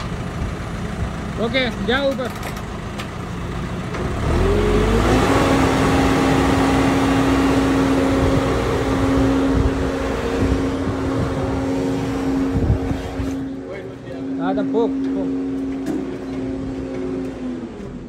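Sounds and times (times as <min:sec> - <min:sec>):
crane engine revving: 0:00.0 - 0:18.0.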